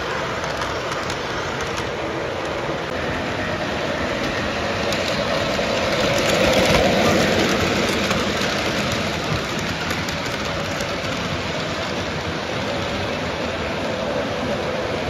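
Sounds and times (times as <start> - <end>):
model train wheels rumbling on rails: 0.0 - 15.0.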